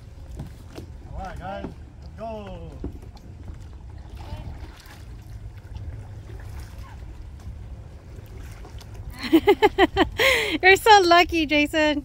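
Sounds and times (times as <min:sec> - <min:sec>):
water sloshing around kayak hull: 0:00.0 - 0:11.9
steady low rumble: 0:00.0 - 0:12.0.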